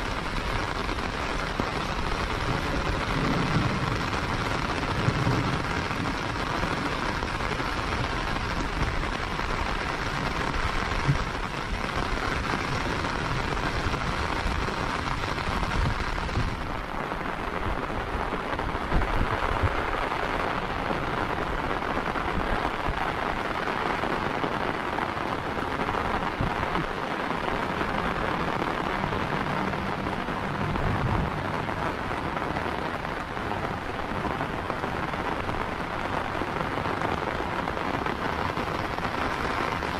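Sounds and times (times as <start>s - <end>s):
heavy rain on pavement: 0.0s - 39.9s.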